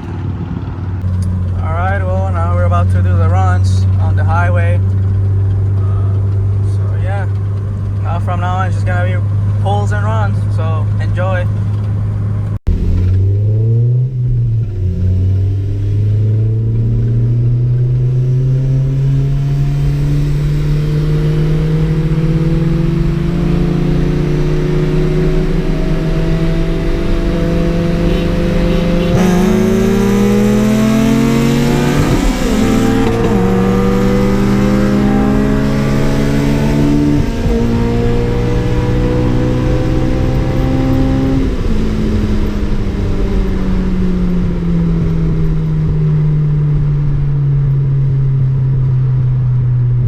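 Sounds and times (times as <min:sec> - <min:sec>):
car engine accelerating hard: 0:00.0 - 0:50.0.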